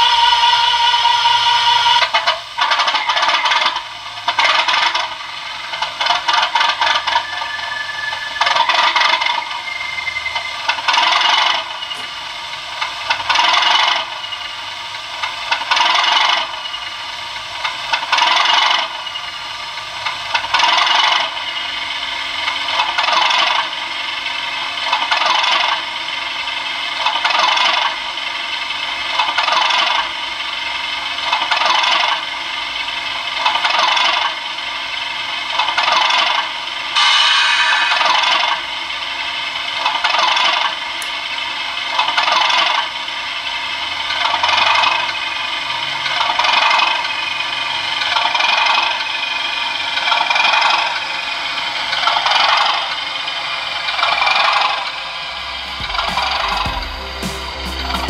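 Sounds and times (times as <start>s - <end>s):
model train diesel engine idling: 0.0s - 58.0s.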